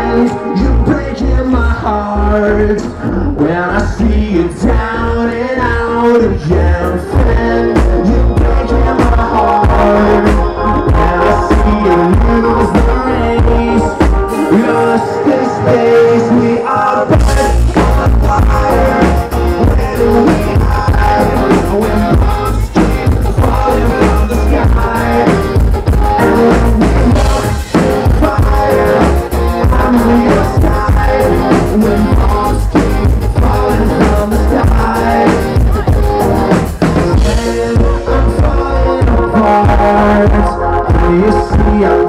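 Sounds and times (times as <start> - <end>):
live rock band: 0.0 - 42.0
person singing: 0.0 - 42.0.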